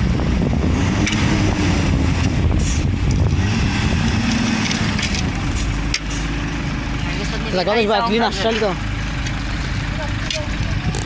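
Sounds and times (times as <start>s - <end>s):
vehicle engine running loudly: 0.0s - 11.0s.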